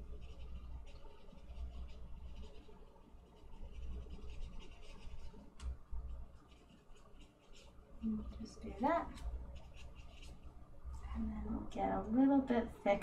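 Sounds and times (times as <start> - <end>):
paintbrush strokes on paper: 0.0 - 11.1.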